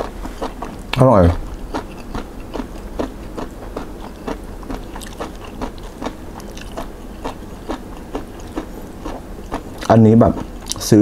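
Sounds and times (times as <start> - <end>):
crisp chewing crunches: 0.0 - 11.0.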